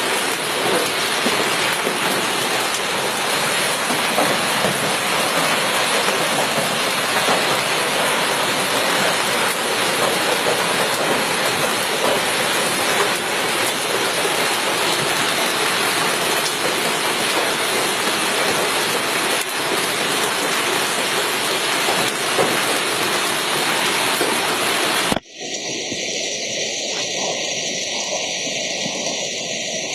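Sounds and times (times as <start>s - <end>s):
hail and heavy rain pelting: 0.0s - 29.9s.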